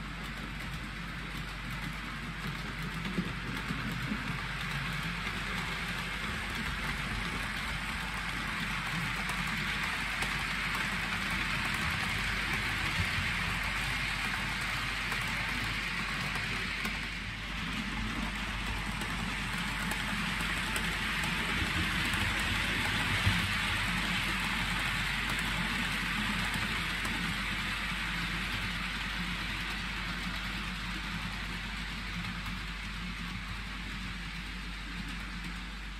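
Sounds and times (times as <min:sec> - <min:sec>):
model train wheels rolling on rails: 0:00.0 - 0:35.9.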